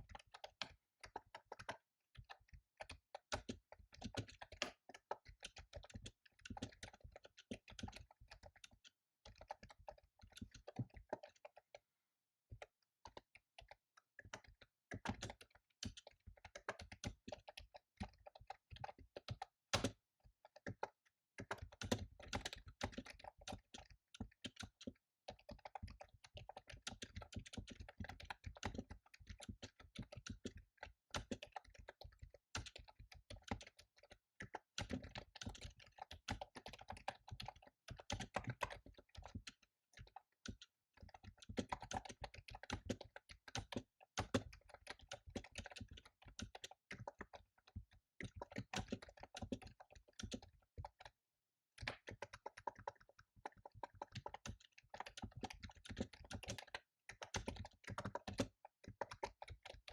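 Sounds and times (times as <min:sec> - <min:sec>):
fast typing on keyboard: 0:00.0 - 0:11.9, 0:12.5 - 0:59.9.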